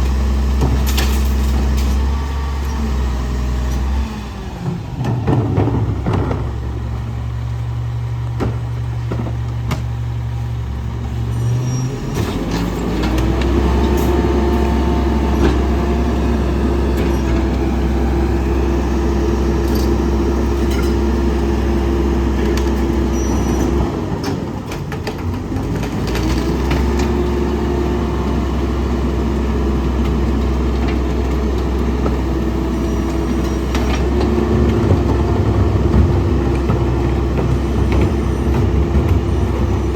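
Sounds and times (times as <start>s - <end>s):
garbage truck diesel engine: 0.0s - 39.9s.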